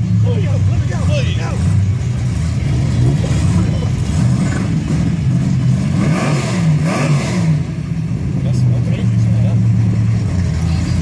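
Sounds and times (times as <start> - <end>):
engine revving: 0.0 - 11.0
race car engines idling: 0.0 - 11.0.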